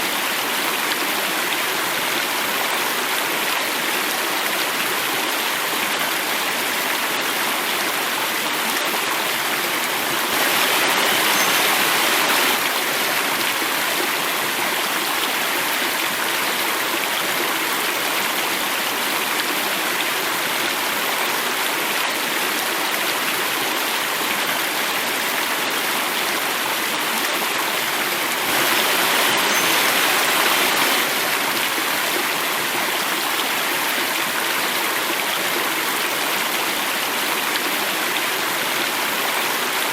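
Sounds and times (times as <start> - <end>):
running water cascading: 0.0 - 39.9.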